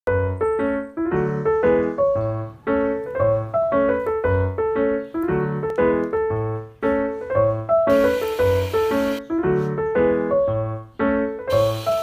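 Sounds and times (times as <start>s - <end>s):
keyboard tune: 0.1s - 12.0s.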